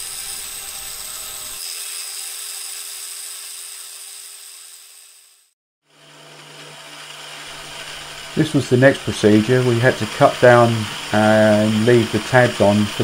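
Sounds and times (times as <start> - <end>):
milling saw cutting metal: 0.0 - 13.0.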